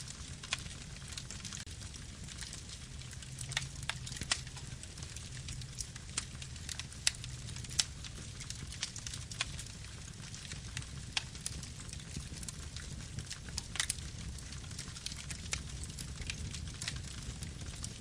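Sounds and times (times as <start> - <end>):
burning wood crackling and popping: 0.0 - 18.0
campfire flames rumbling: 0.0 - 18.0.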